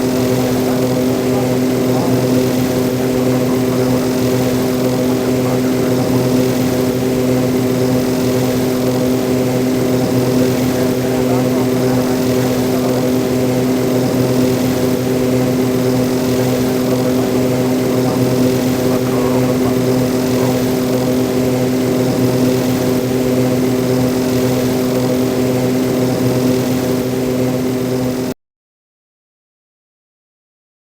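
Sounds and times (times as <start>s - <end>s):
propeller engines droning: 0.0s - 28.3s.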